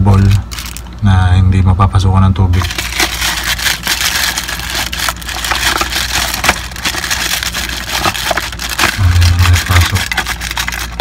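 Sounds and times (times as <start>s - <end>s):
plastic packaging crinkling: 0.0s - 0.9s, 2.5s - 11.0s.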